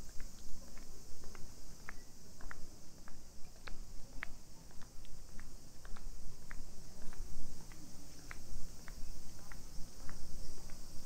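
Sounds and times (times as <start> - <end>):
footsteps on paved path: 0.0 - 11.0
high-pitched insect chorus: 0.0 - 11.0.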